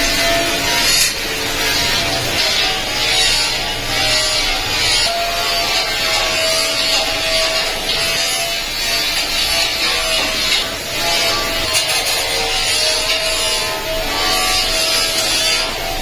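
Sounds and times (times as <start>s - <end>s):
power tool cutting sheet metal: 0.0s - 16.0s.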